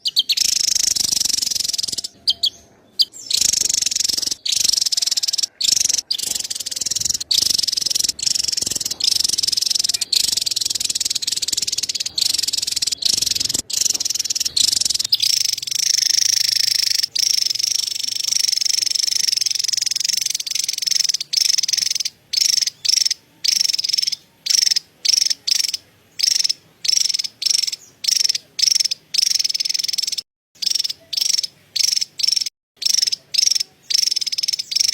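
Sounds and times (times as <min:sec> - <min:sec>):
bird chattering trill: 0:00.0 - 0:34.9.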